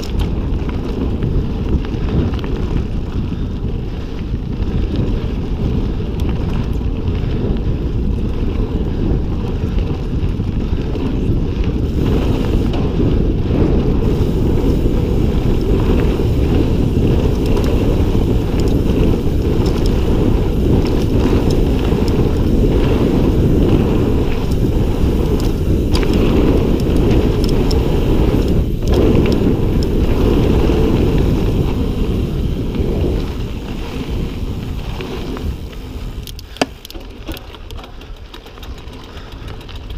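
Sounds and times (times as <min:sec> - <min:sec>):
bike clicks and rattles: 0:00.0 - 0:39.9
tyre noise on dirt: 0:00.0 - 0:39.9
wind buffeting microphone: 0:00.0 - 0:39.9.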